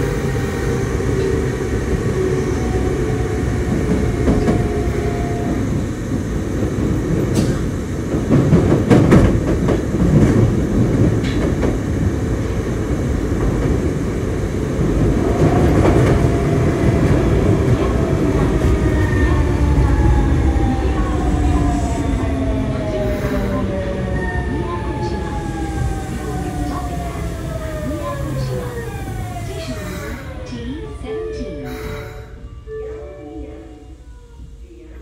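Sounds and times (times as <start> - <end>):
subway train wheels rumbling: 0.0 - 35.0.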